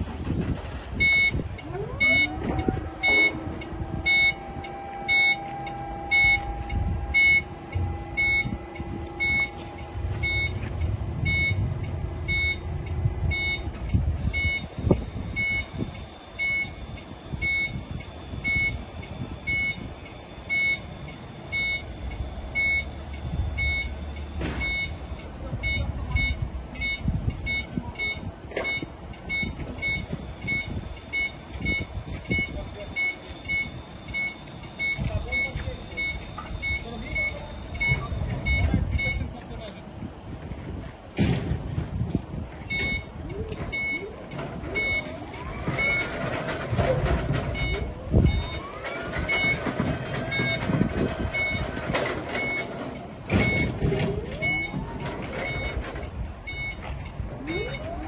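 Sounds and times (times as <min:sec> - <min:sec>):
hydraulic pump whine: 0:00.0 - 0:58.0
motion alarm beeping: 0:01.0 - 0:39.6, 0:42.6 - 0:58.0.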